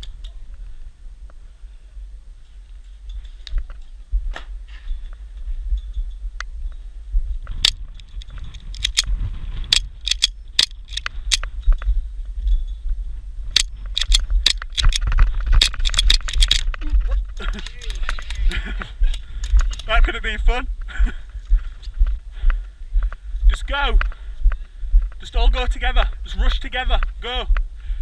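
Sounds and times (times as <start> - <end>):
low rumble of wind on microphone: 0.0 - 28.0.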